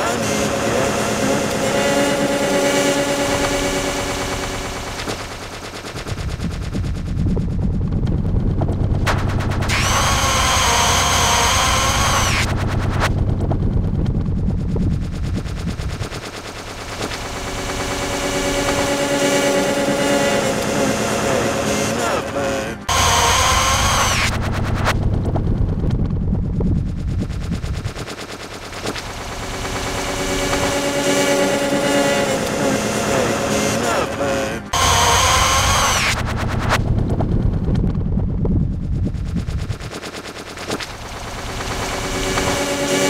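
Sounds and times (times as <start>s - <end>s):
electronic buzzing rattling stutter: 0.0s - 43.0s
layered pitched tones: 0.0s - 43.0s.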